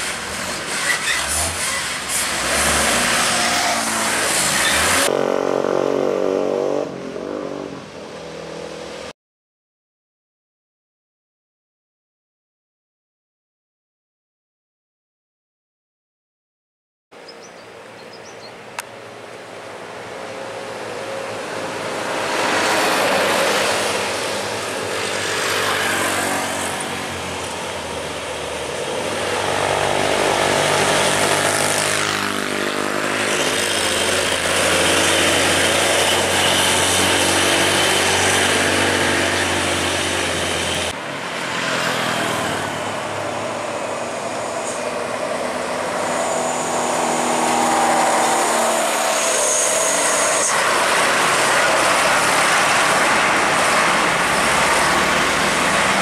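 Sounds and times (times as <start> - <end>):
motorcycles passing: 1.6 - 9.1, 17.2 - 56.0.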